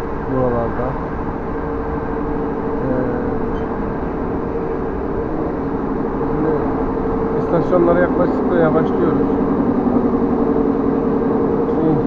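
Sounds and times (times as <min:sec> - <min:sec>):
steady hum: 0:00.0 - 0:12.0
train wheels rumbling on rails: 0:00.0 - 0:12.0.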